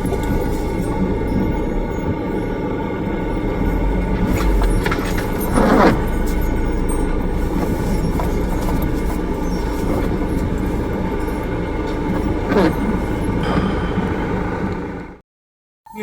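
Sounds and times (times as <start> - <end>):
van engine and tyres droning: 0.0 - 15.2.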